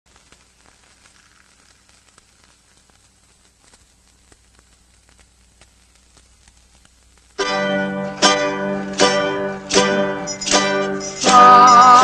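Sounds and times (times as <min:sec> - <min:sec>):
faint crackling hiss: 0:00.1 - 0:12.0.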